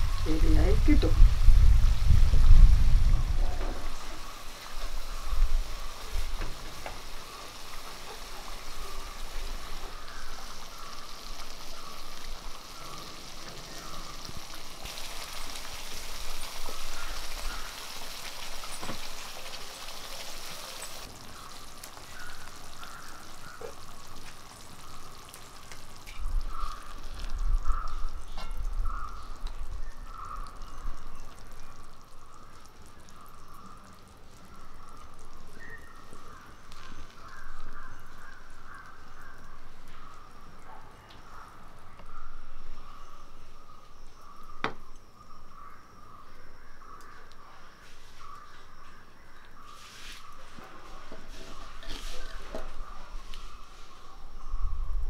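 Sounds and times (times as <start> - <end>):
gravy bubbling and sizzling: 0.0 - 55.0.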